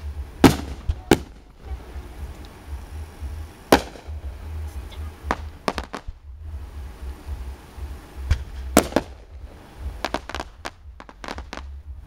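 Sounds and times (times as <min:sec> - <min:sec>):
firework shells bursting: 0:00.0 - 0:12.0
steady low rumble: 0:00.0 - 0:12.0.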